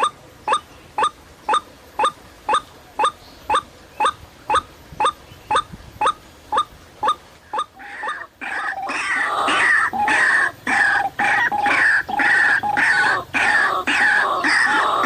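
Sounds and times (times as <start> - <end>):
waterhen calls: 0.0 - 15.0.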